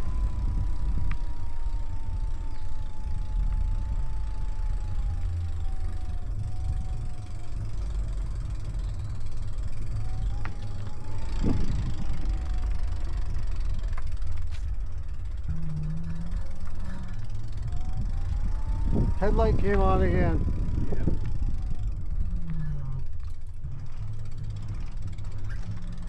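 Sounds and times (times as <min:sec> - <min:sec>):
electric motor whine: 0:00.0 - 0:26.0
wind buffeting microphone: 0:00.0 - 0:26.0.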